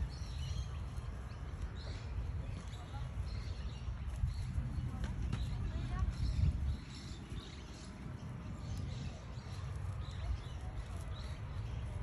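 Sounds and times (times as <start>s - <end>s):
small birds chirping: 0.0s - 12.0s
wind on microphone: 0.0s - 12.0s.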